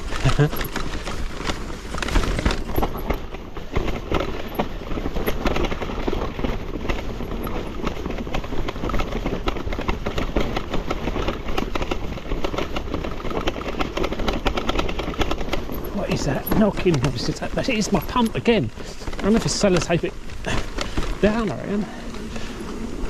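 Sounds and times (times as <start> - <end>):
bike tyres rumbling over rock: 0.0 - 23.0.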